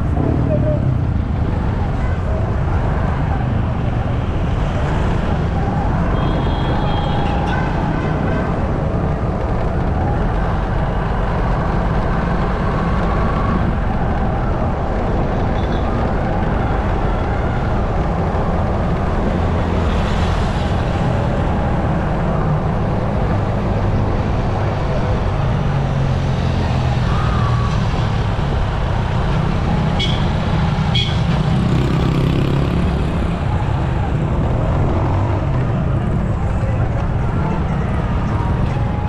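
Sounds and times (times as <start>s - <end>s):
road noise: 0.0s - 39.0s
vehicle engine rumble: 0.0s - 39.0s.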